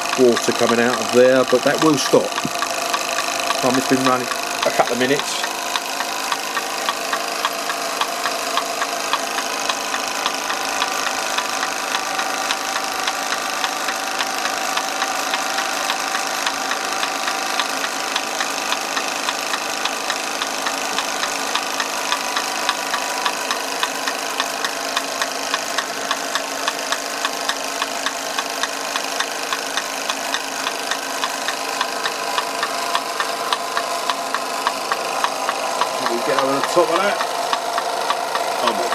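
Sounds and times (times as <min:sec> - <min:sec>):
toy steam engine hissing: 0:00.0 - 0:38.9.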